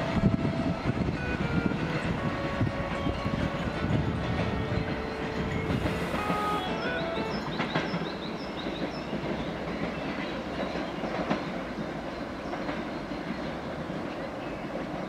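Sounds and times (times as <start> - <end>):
freight train rumbling on rails: 0.0 - 15.0
wheels clacking over rail joints: 0.0 - 15.0.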